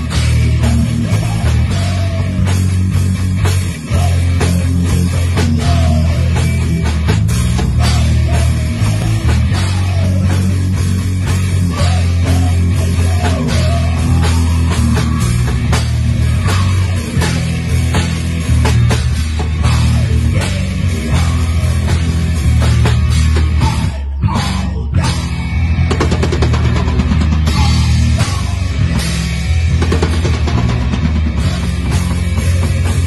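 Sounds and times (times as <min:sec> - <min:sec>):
distorted electric guitar and bass: 0:00.0 - 0:33.0
drums and cymbals: 0:00.0 - 0:33.0.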